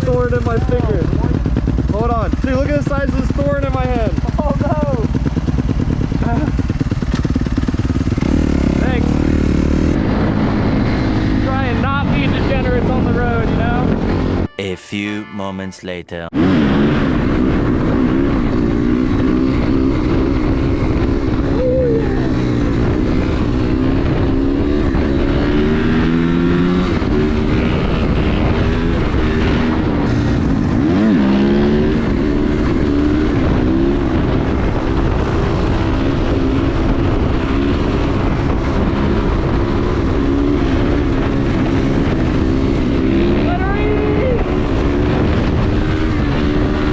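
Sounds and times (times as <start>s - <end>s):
dirt bike engine revving: 0.4s - 14.5s, 16.4s - 46.9s.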